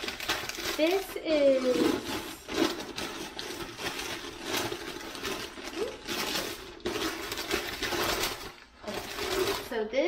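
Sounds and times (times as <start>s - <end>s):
paper wrapping crinkling: 0.0s - 9.8s.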